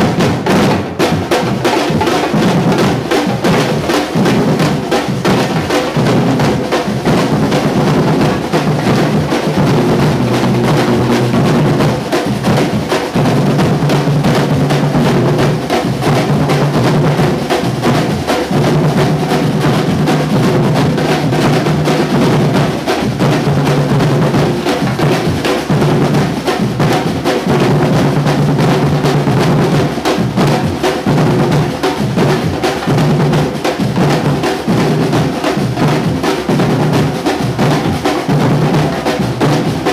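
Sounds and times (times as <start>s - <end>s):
drum group playing: 0.0s - 39.9s.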